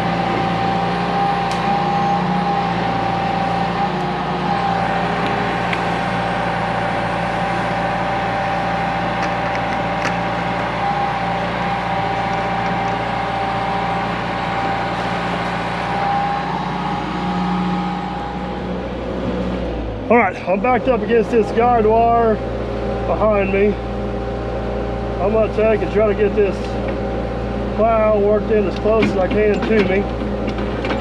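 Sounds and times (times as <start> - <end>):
excavator diesel engine running: 0.0 - 31.0
steady high whine: 0.0 - 31.0.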